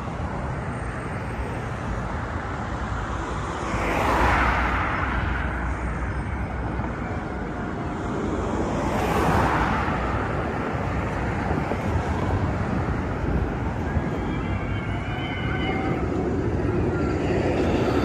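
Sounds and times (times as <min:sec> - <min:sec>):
traffic rumble: 0:00.0 - 0:18.0
vehicles passing by: 0:00.0 - 0:18.0.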